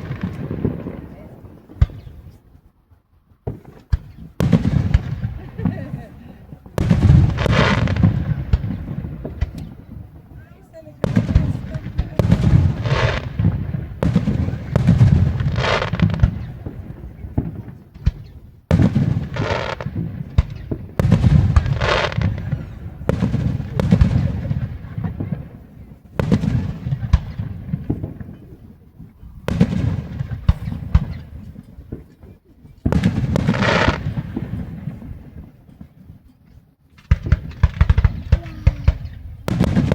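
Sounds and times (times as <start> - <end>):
fireworks booming and crackling: 0.0 - 39.9.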